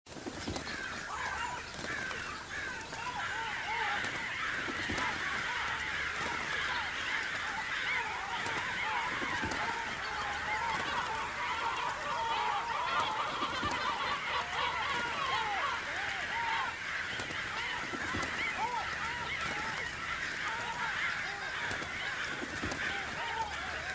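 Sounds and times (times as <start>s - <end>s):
flock of birds squawking: 0.1s - 23.9s.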